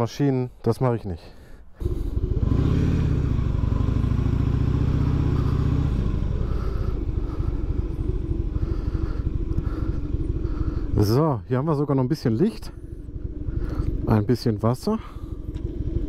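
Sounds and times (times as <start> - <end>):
motorcycle engine running: 1.8 - 16.0.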